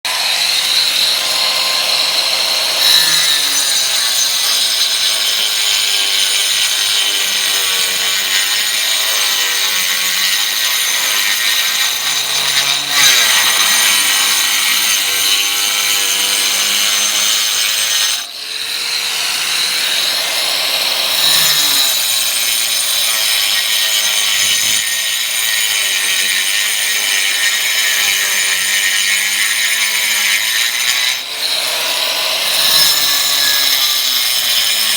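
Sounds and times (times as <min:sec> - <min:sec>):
power tool whining cutting: 0:00.0 - 0:34.9.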